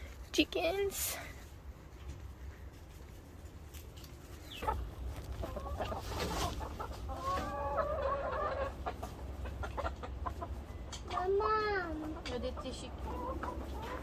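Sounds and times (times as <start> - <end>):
chickens clucking: 2.0 - 14.0.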